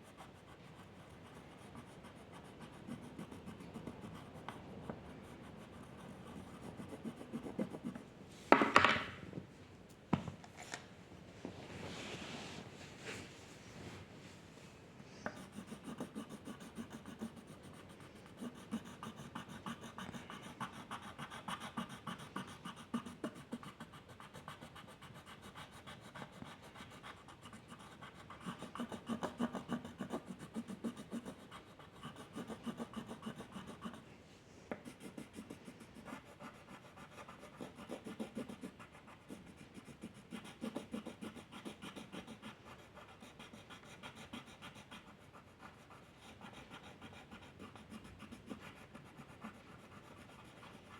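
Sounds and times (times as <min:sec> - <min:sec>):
drawing tool scratching on paper: 0:00.0 - 0:08.0, 0:15.3 - 0:34.0, 0:34.7 - 0:50.9.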